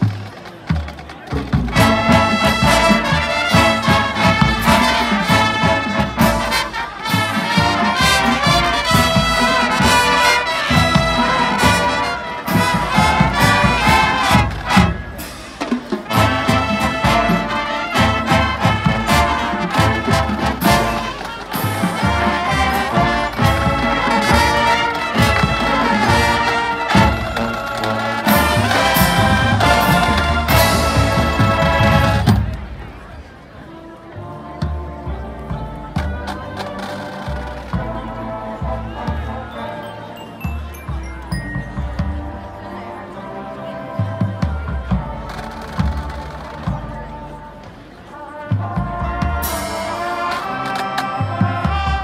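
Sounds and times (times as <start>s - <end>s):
marching band playing: 0.0s - 52.0s.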